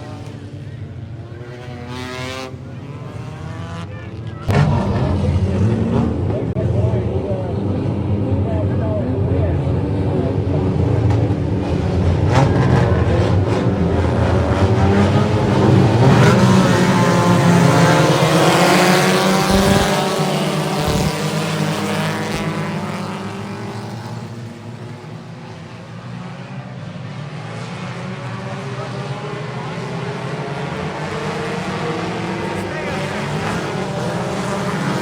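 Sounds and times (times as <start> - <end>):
race car engines running hard: 0.0 - 35.0.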